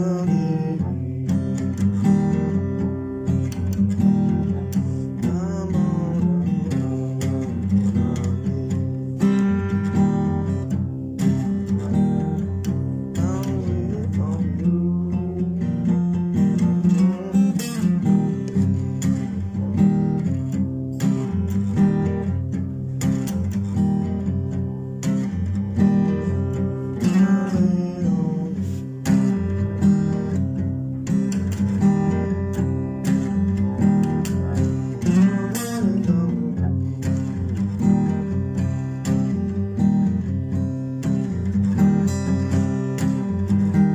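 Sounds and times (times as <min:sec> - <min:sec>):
acoustic guitar blues: 0:00.0 - 0:43.9.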